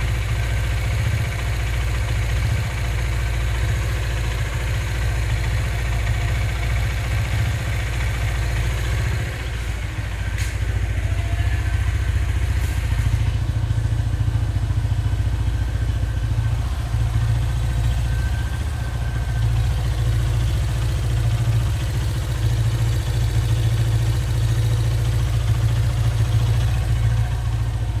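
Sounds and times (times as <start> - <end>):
motorcycle engine idling with knocking: 0.0 - 28.0.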